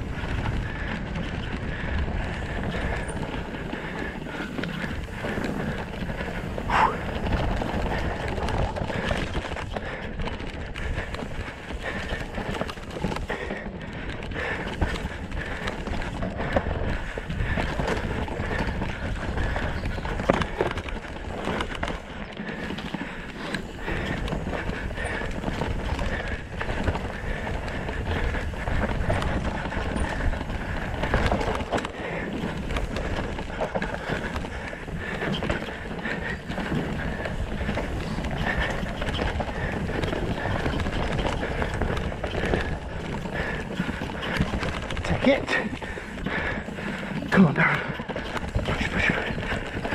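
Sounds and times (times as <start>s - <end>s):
mountain bike rattling over trail: 0.0s - 49.9s.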